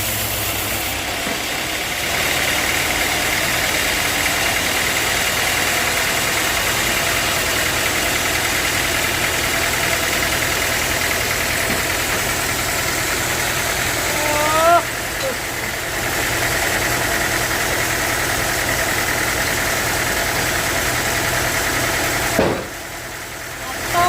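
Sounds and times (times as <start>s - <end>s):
sawmill machinery drone and whine: 0.0s - 24.0s.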